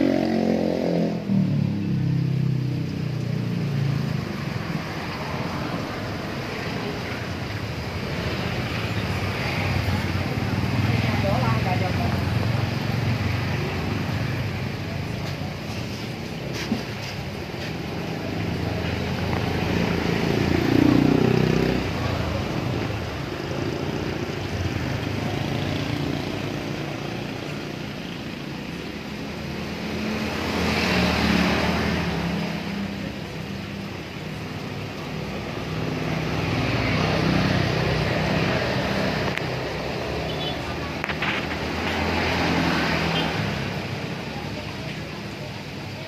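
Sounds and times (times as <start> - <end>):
vehicle engines passing by: 0.0 - 46.0.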